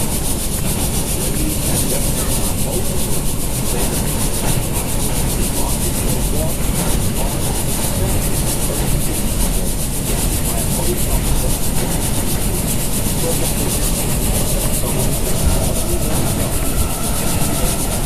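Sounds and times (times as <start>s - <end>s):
subway train wheels rumbling: 0.0s - 18.0s.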